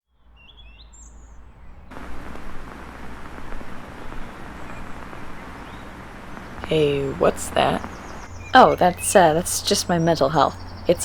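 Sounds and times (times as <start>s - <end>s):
bird-like chirps: 0.4s - 11.0s
crackling static hiss: 1.0s - 11.0s.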